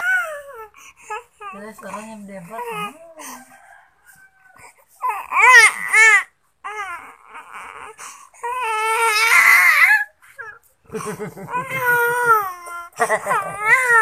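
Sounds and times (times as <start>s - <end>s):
baby crying: 0.0s - 3.4s, 4.6s - 10.7s, 11.3s - 14.0s.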